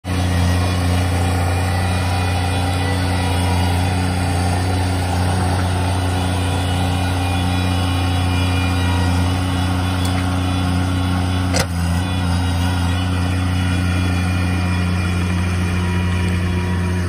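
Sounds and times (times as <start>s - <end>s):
mini skid steer engine droning: 0.0s - 17.0s.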